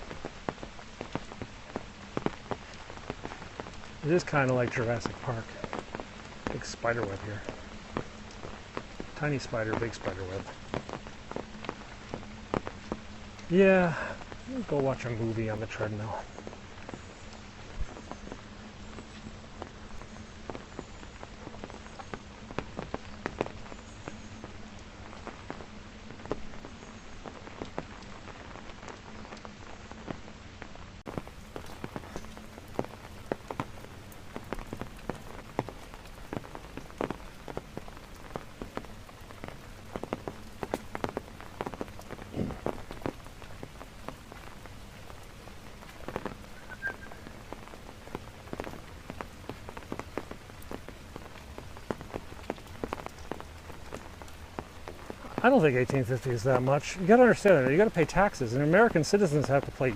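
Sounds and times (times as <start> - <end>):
raindrops ticking close by: 0.0 - 59.9
steady rain: 0.0 - 59.9.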